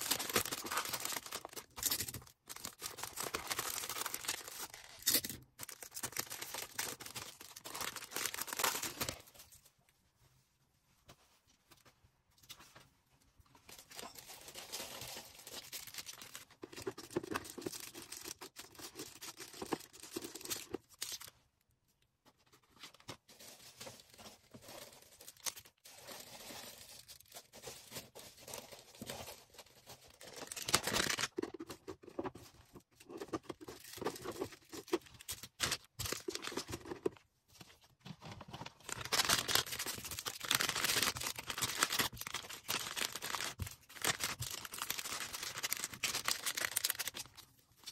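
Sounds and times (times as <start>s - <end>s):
packaging crinkling and tearing: 0.0s - 9.4s, 13.8s - 21.3s, 22.9s - 32.4s, 33.1s - 37.2s, 38.2s - 47.9s.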